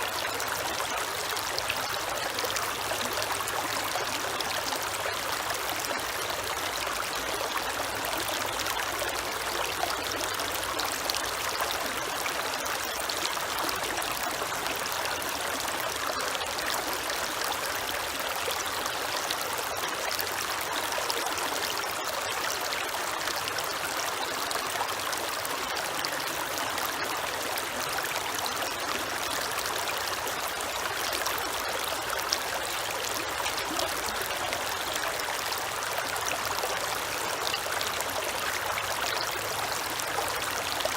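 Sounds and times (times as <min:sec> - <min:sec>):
creek water trickling: 0:00.0 - 0:40.9.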